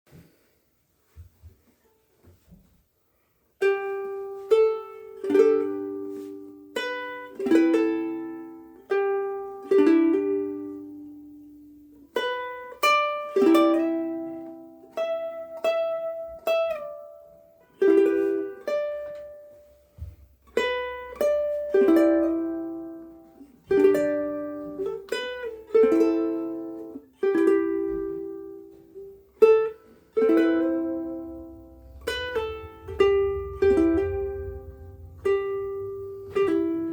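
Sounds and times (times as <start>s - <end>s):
ukulele plucked chords and melody: 3.6s - 36.9s.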